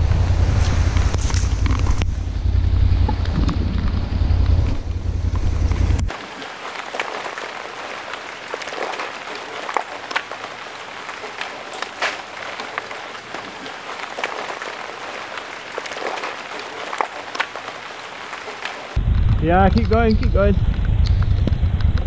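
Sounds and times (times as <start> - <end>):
raindrops tapping: 0.0 - 22.0
steady rain: 0.0 - 22.0.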